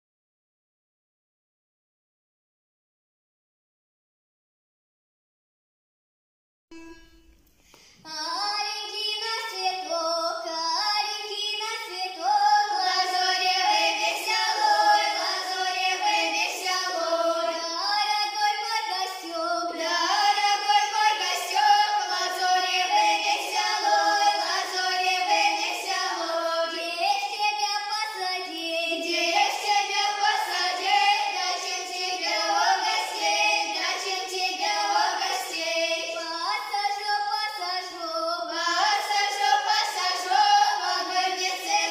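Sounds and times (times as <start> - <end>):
girls singing folk song together: 7.9 - 41.9.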